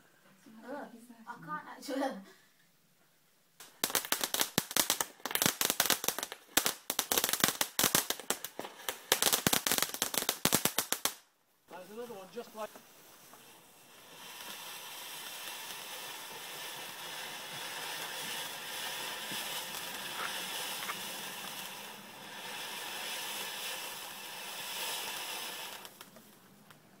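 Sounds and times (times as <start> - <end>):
firework hissing: 3.6 - 27.0.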